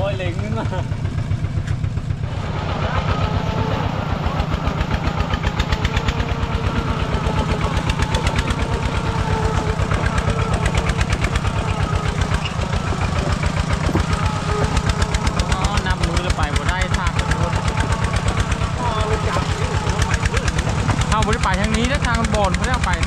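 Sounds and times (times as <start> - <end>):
engine running with knocking beat: 0.0 - 23.0.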